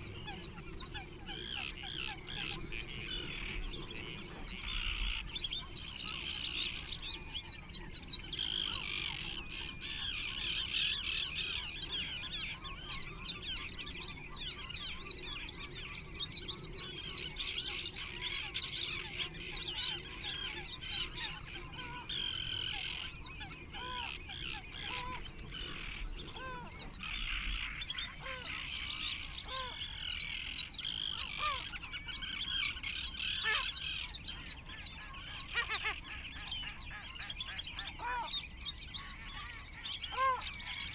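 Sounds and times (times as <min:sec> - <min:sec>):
birds chirping chorus: 0:00.0 - 0:40.9.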